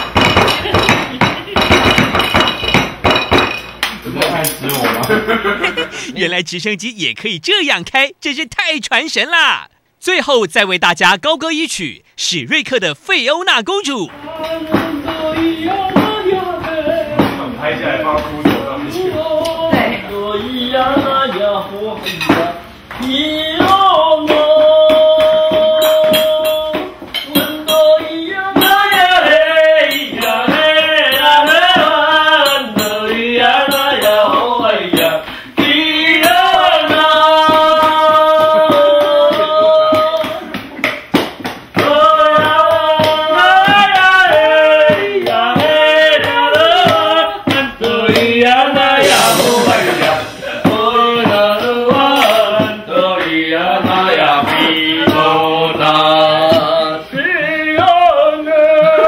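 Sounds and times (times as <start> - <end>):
man singing: 5.7 - 40.6, 41.8 - 59.0.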